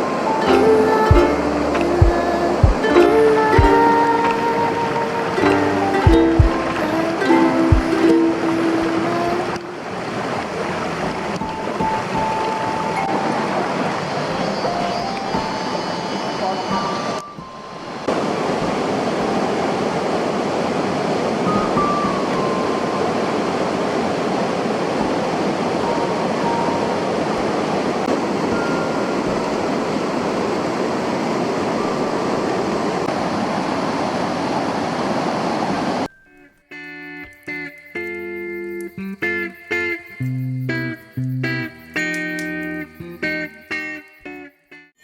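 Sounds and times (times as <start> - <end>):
plucked guitar music: 0.0 - 20.6, 21.4 - 24.1, 25.8 - 30.4, 36.1 - 44.9
waterfall rushing: 0.0 - 36.1.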